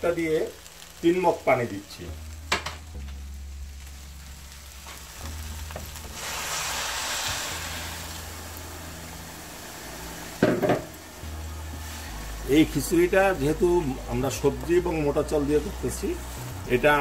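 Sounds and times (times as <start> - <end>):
water sizzling in a hot pan: 0.0 - 17.0.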